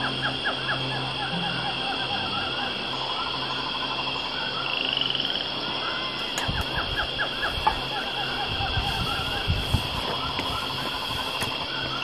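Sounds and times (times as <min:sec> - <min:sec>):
frogs croaking in chorus: 0:00.0 - 0:12.0
high insect drone: 0:00.0 - 0:12.0.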